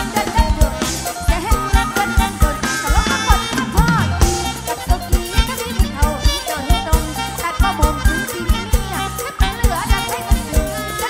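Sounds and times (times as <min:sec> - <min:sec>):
band music through pa: 0:00.0 - 0:11.0
woman singing: 0:00.0 - 0:11.0.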